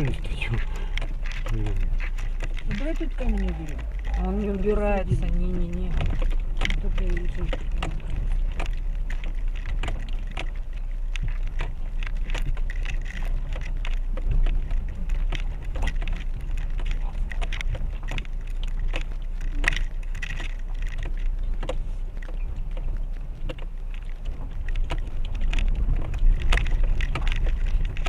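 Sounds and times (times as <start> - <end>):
car engine rumble: 0.0 - 28.0
stones knocking under tyres: 0.0 - 28.0.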